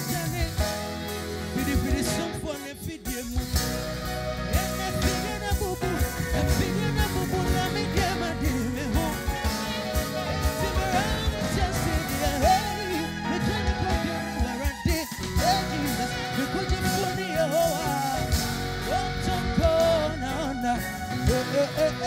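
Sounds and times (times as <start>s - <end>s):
bass: 0.0s - 22.0s
electronic keyboard: 0.0s - 22.0s
person singing: 0.0s - 22.0s
steady drum beat: 0.0s - 22.0s.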